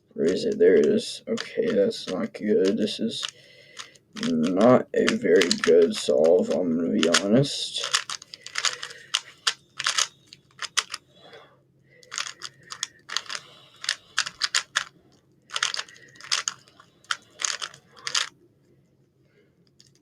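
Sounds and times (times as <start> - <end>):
puzzle cube layers clicking: 0.2 - 11.0, 12.0 - 14.9, 15.5 - 18.3.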